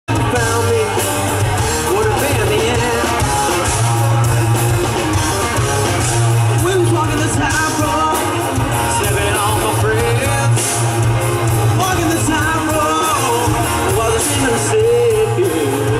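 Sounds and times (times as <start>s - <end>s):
bass guitar: 0.1s - 15.9s
drums with cymbals: 0.1s - 15.9s
electric guitar: 0.1s - 15.9s.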